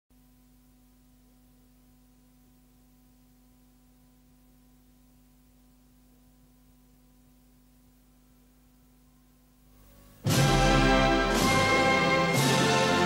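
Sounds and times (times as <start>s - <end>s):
faint steady hum: 0.1s - 13.0s.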